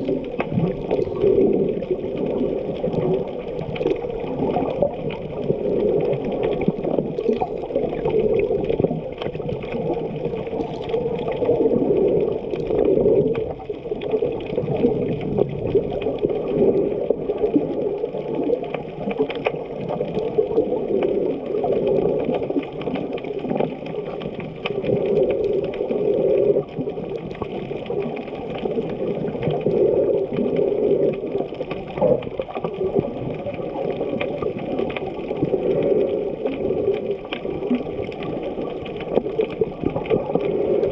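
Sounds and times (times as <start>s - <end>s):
small clicks underwater: 0.0s - 40.9s
water sloshing underwater: 0.0s - 40.9s.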